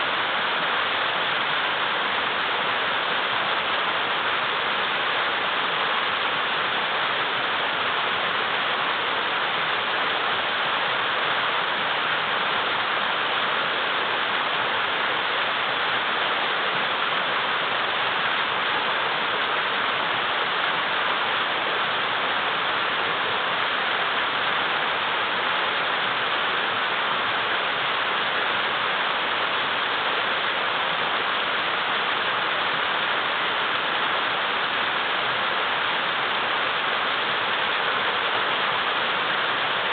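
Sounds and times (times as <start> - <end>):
river rushing over boulders: 0.0 - 39.9.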